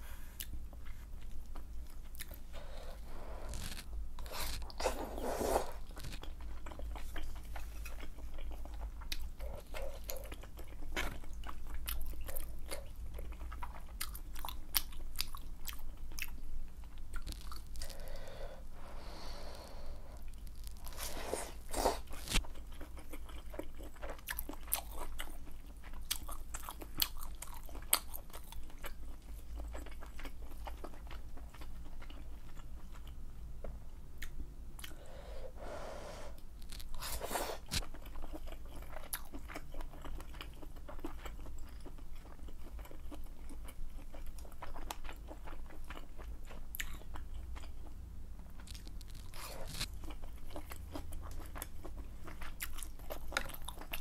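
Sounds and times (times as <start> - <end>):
close chewing and biting: 0.2 - 18.1, 20.2 - 33.2, 36.6 - 54.0.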